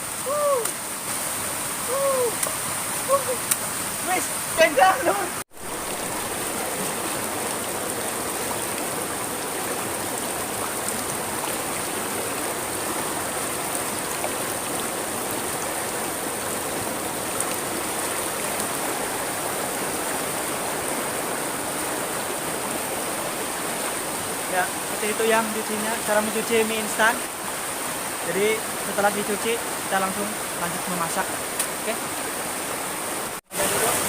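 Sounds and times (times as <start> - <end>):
stream flowing: 0.0 - 34.0.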